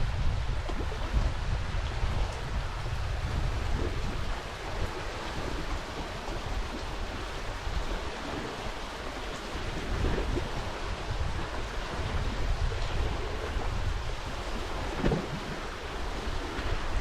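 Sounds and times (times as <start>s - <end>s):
wind noise on microphone: 0.0s - 17.0s
water splashing around kayak: 0.3s - 17.0s.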